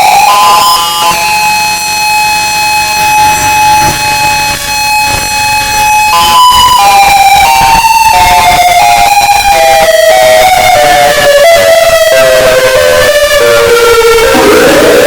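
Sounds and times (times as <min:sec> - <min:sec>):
electronic warning siren: 0:00.0 - 0:15.0.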